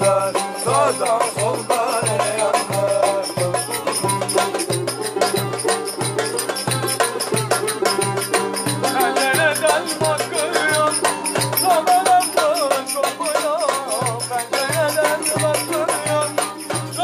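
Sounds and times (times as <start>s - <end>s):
fast rattling percussion: 0.0s - 17.0s.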